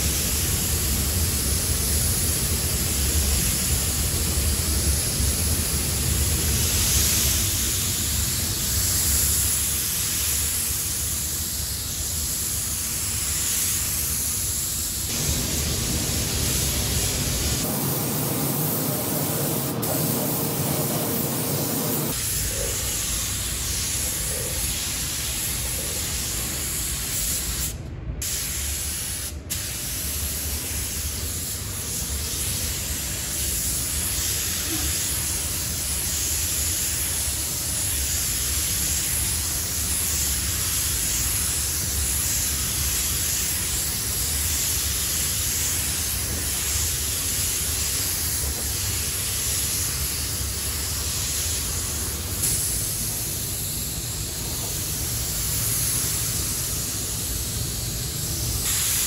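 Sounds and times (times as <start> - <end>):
paint spray gun hissing: 0.0 - 59.0.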